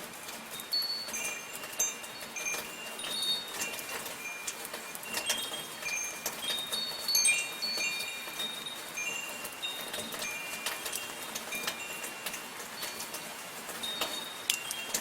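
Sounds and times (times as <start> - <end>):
rain falling: 0.0 - 15.0
metal wind chimes tinkling: 0.3 - 15.0.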